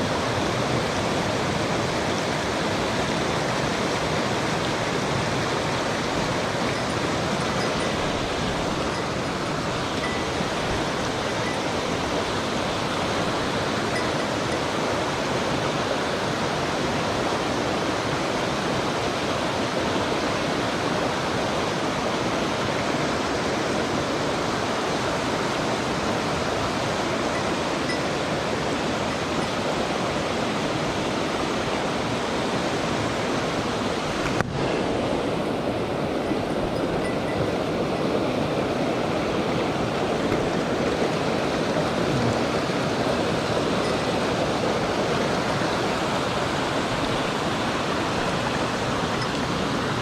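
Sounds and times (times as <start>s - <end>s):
stream water rushing: 0.0s - 50.0s.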